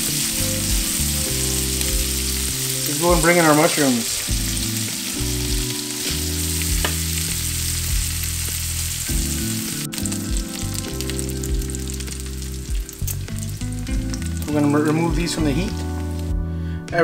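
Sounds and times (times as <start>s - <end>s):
bacon sizzling in a skillet: 0.0s - 16.3s
background music low notes: 0.0s - 17.0s.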